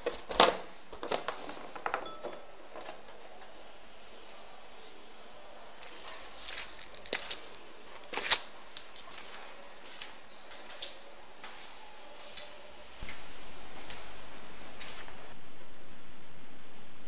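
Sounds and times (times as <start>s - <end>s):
light rustles: 0.0s - 15.3s
low hiss: 0.0s - 17.0s.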